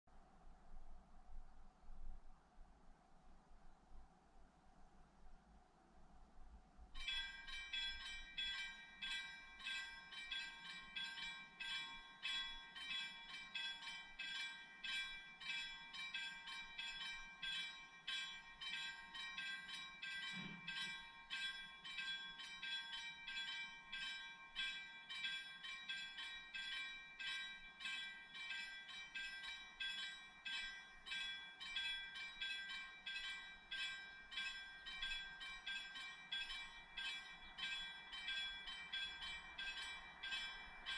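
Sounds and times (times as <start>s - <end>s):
level crossing warning bell: 7.0s - 40.9s.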